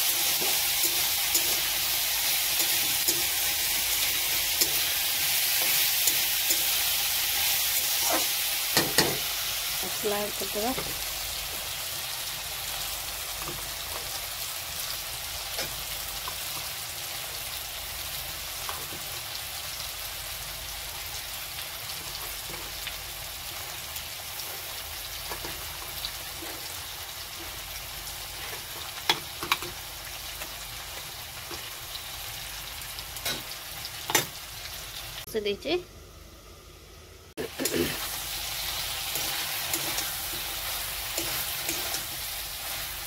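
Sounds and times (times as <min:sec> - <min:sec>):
vegetables sizzling in a pan: 0:00.0 - 0:43.0.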